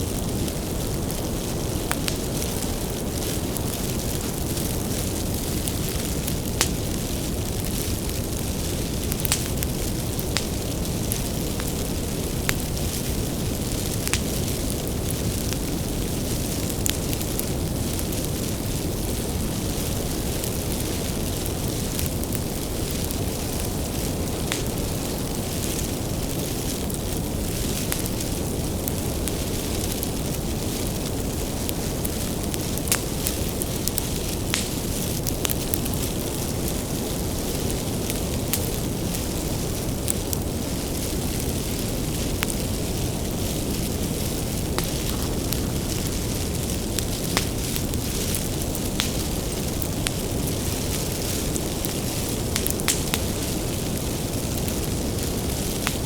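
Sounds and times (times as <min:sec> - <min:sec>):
bonfire roaring: 0:00.0 - 0:56.0
firewood crackling and popping: 0:00.0 - 0:56.0.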